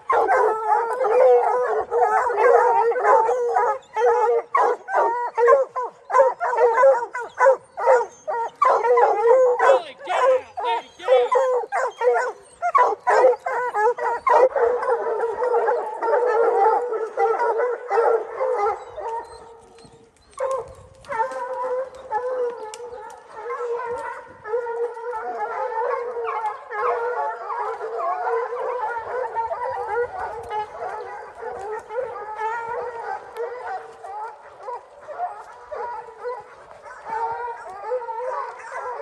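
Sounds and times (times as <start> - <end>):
hounds baying: 0.0 - 39.0.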